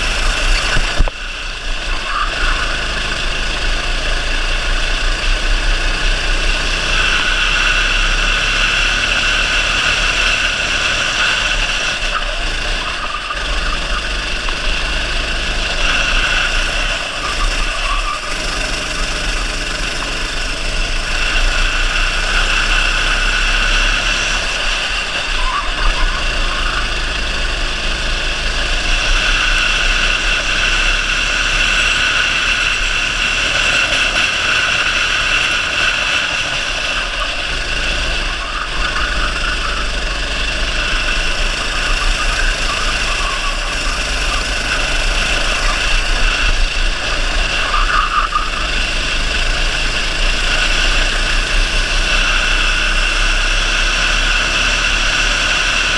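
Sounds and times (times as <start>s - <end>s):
kart engine droning: 0.0s - 55.9s
wind: 0.0s - 55.9s.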